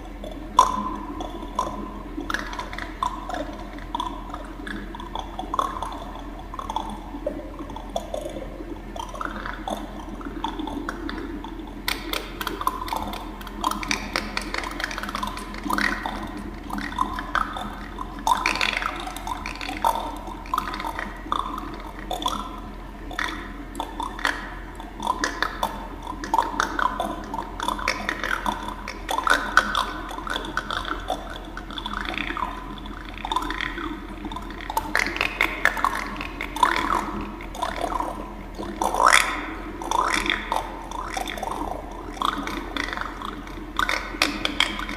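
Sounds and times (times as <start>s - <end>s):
steady low hum: 0.0s - 44.9s
wet bubbling plops: 0.0s - 44.9s.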